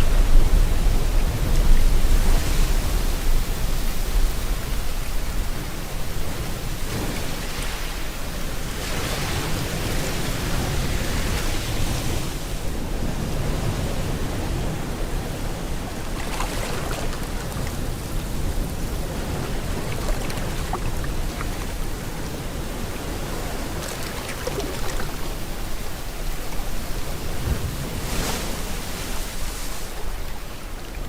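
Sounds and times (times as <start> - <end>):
ocean waves breaking on shore: 0.0 - 31.0
rain: 0.0 - 31.0.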